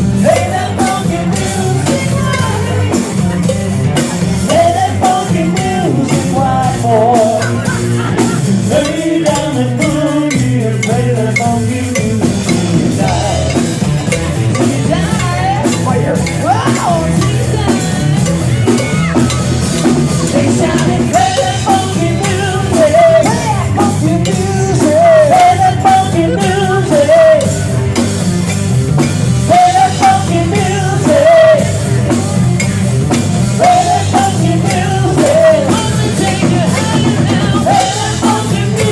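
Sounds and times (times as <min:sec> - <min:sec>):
drum kit: 0:00.0 - 0:38.9
rock song with singer: 0:00.0 - 0:38.9.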